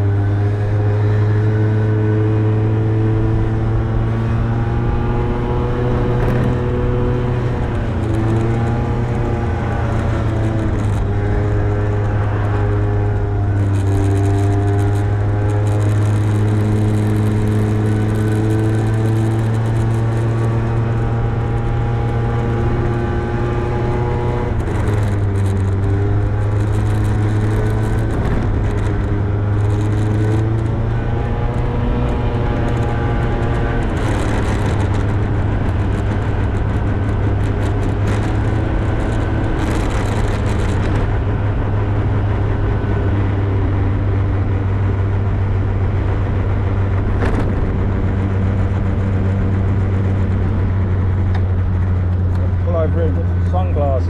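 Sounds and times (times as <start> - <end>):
motorbike engine revving: 0.0 - 54.0
wind and road noise: 0.0 - 54.0.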